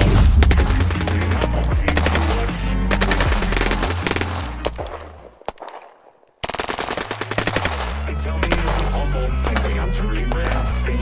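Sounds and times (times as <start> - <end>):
rapid automatic rifle fire: 0.0 - 10.9.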